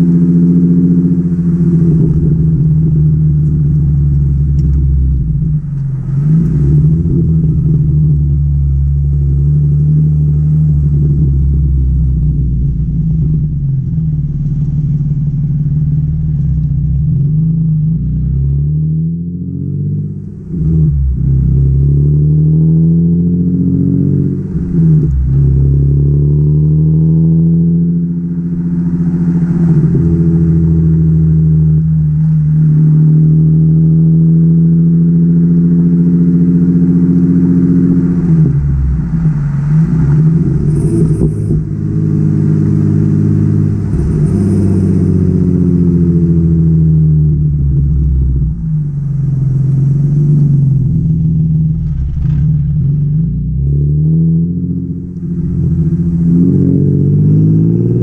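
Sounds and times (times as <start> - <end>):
car exhaust revving: 0.0 - 58.0.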